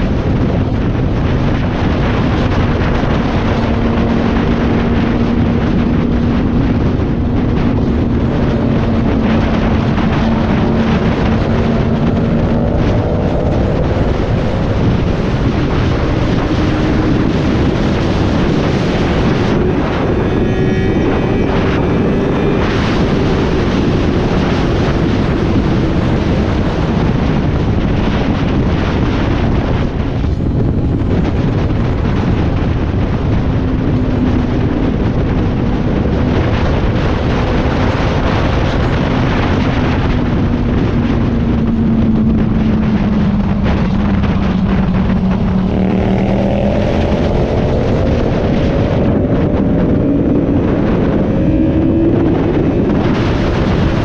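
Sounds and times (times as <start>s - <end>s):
motorcycle engine accelerating: 0.0s - 54.0s
wind noise on microphone: 0.0s - 54.0s.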